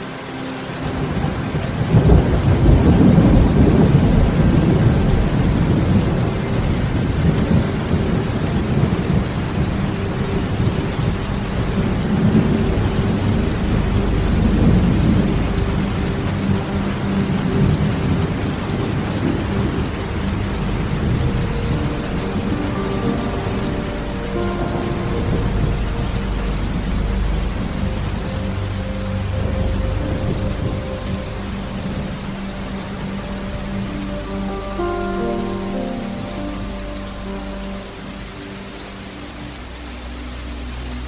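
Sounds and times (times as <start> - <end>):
steady rain: 0.0 - 41.0
thunder rumbling: 0.8 - 38.7.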